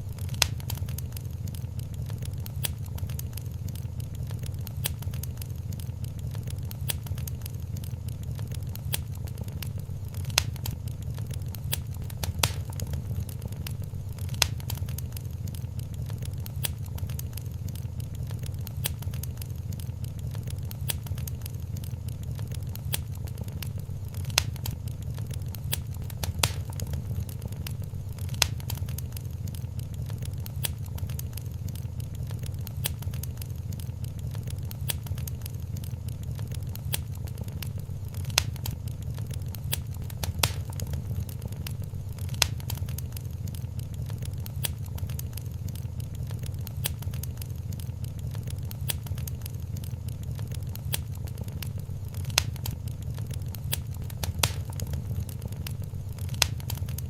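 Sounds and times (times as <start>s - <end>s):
low rumble of flames: 0.0s - 57.0s
sharp pops of fire: 0.0s - 57.0s
wood fire crackling: 0.0s - 57.0s.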